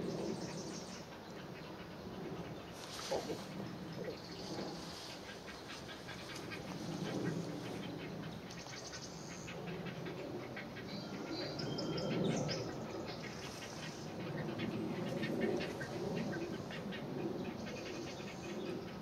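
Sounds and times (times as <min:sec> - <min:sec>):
low uneven croaking: 0:01.2 - 0:18.2.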